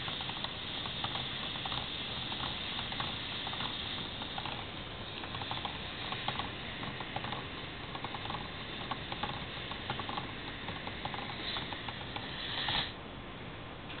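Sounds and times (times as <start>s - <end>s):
compressed air hiss: 0.0s - 13.0s
plastic pistons clicking: 0.0s - 13.0s.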